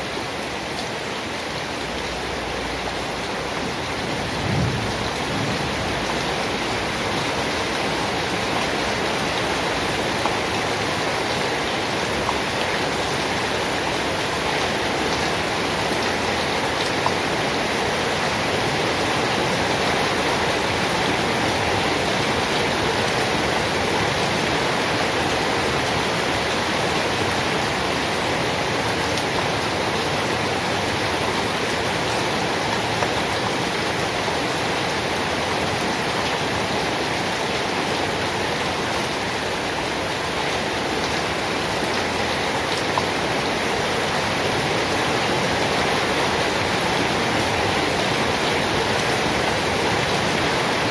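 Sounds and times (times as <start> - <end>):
heavy rain hiss: 0.0 - 50.9.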